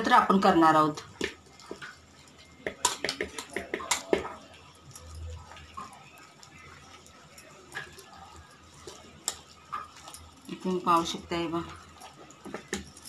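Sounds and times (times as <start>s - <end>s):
hand mixing paste: 0.0s - 13.0s.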